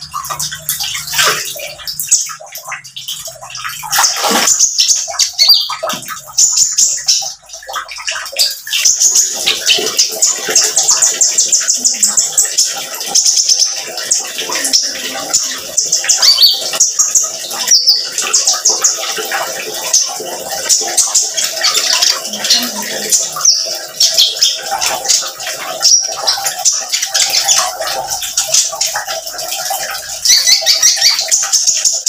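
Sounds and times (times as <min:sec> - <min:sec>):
bird twittering song: 0:00.0 - 0:32.0.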